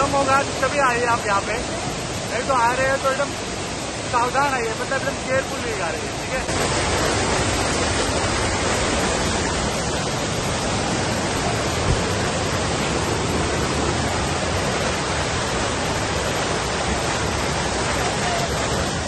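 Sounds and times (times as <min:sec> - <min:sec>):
rush of fast-flowing water: 0:00.0 - 0:19.0.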